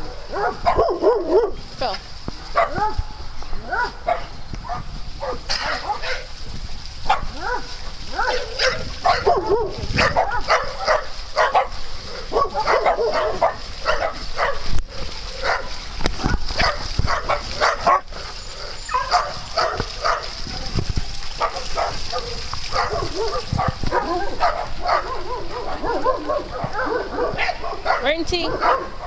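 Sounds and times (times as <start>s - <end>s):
dogs barking: 0.0s - 1.6s, 2.5s - 6.3s, 7.0s - 20.4s, 21.3s - 29.0s.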